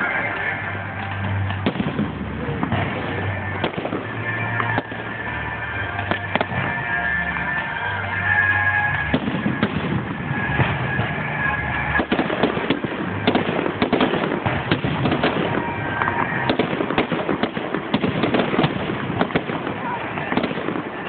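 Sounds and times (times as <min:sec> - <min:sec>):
fireworks banging and crackling: 0:00.0 - 0:21.0.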